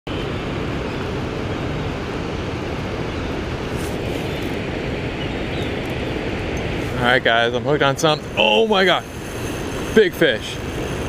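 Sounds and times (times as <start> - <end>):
churning water rumble: 0.1 - 11.0
wind on microphone: 0.1 - 11.0.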